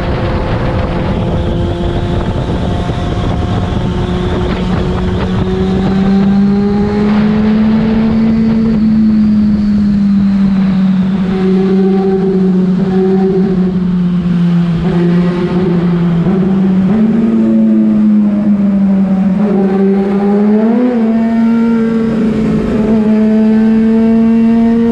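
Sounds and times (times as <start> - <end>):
motorcycle engine running: 0.0 - 24.9
wind rumble: 0.0 - 24.9.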